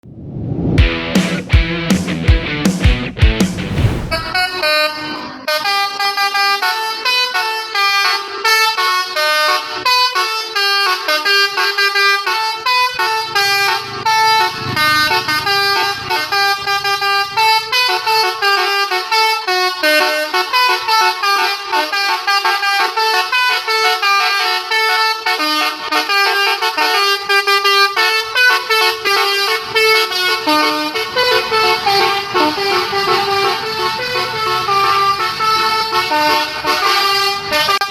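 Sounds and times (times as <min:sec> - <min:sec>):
bus air horns playing a tune: 0:04.2 - 0:37.9.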